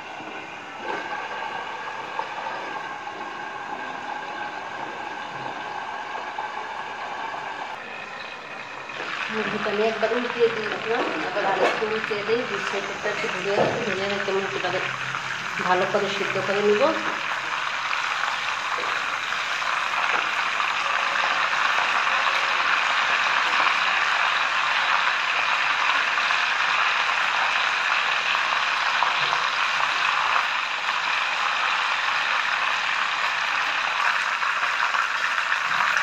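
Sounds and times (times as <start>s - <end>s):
chicken sizzling in oil: 0.0s - 36.0s.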